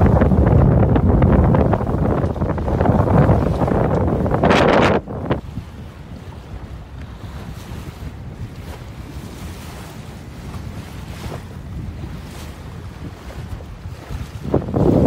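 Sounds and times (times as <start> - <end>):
rushing water: 0.0 - 15.0
wind rumbling on microphone: 0.0 - 15.0.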